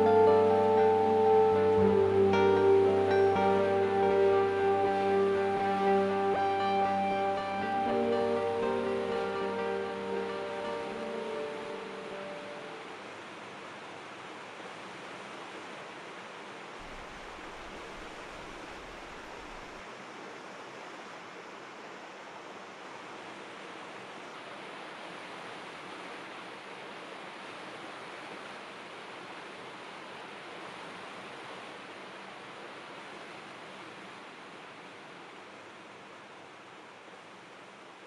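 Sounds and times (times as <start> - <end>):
river rushing over rapids: 0.0 - 38.0.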